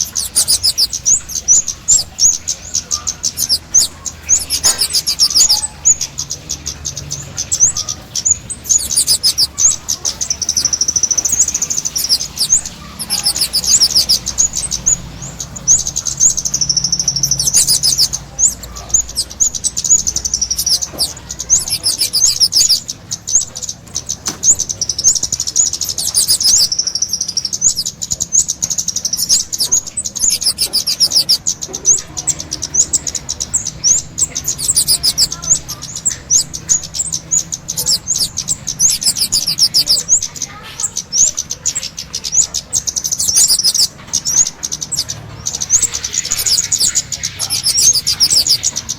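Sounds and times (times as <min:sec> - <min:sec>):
songbird chirping trills: 0:00.0 - 0:48.9.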